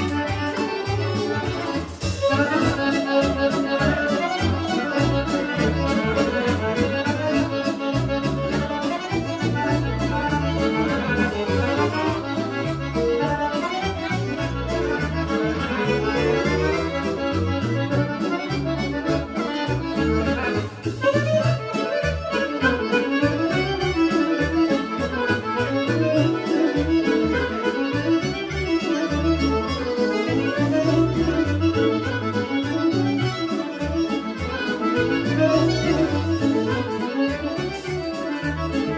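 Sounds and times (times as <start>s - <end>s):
accordion: 0.0s - 38.9s
driving bass beat: 0.0s - 38.9s
folk dance band music: 0.0s - 38.9s.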